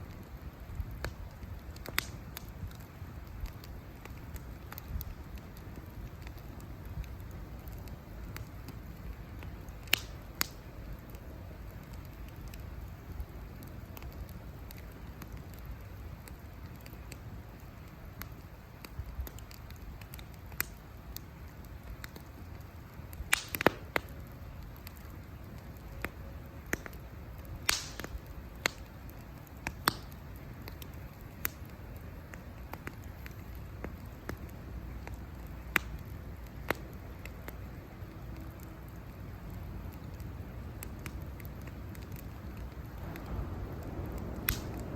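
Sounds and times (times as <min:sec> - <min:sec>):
campfire crackling: 0:00.0 - 0:44.9
low fire rumble: 0:00.0 - 0:44.9
sharp fire pops: 0:00.0 - 0:44.9.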